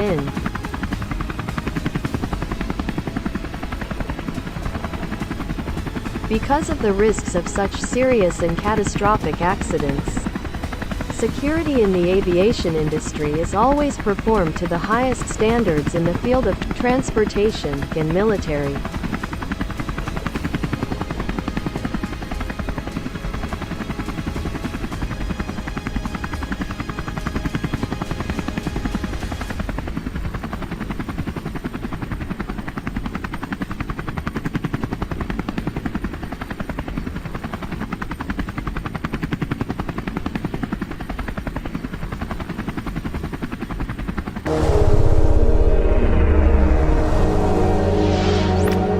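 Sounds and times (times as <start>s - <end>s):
helicopter rotor chopping: 0.0s - 48.9s.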